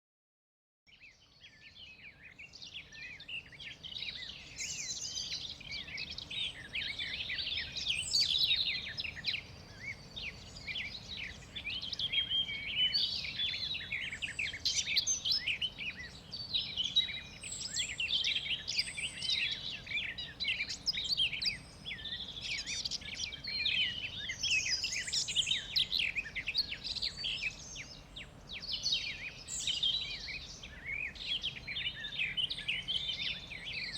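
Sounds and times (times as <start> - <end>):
songbirds chirping and trilling: 0.9 - 33.9.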